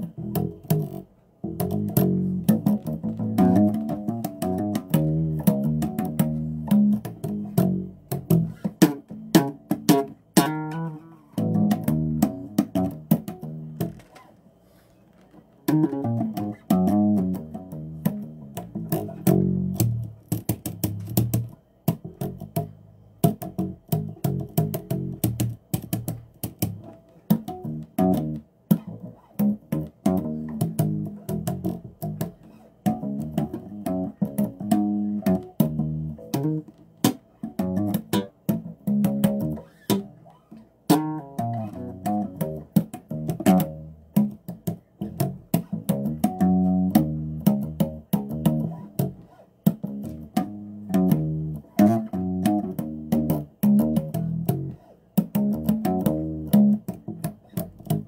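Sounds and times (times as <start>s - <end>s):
bass guitar notes: 0.0s - 14.3s, 15.4s - 58.0s.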